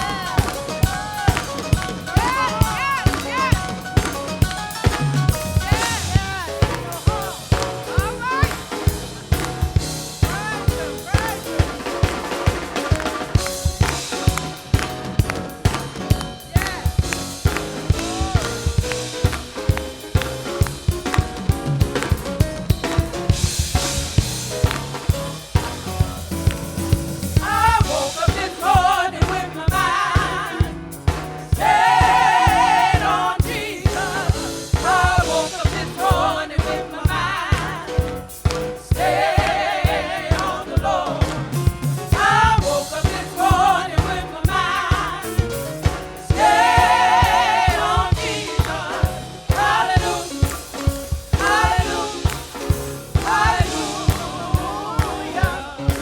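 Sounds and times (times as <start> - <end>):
gospel choir singing: 0.0 - 22.2, 22.8 - 56.0
band with drum beat: 0.0 - 56.0.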